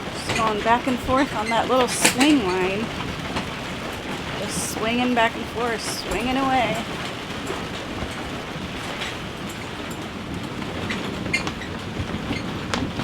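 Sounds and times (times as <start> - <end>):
heavy rain rushing: 0.0 - 13.0
raindrops tapping: 0.0 - 13.0.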